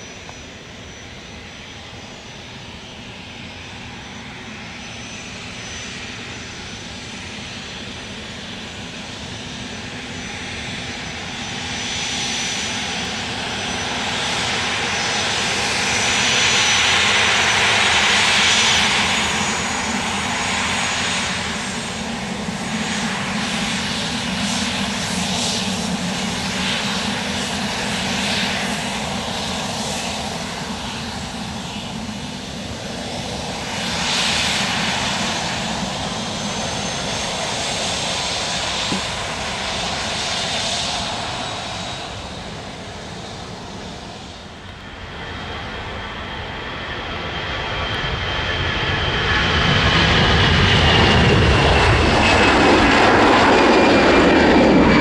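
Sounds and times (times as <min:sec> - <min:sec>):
jet engines whining and hissing: 0:00.0 - 0:55.0.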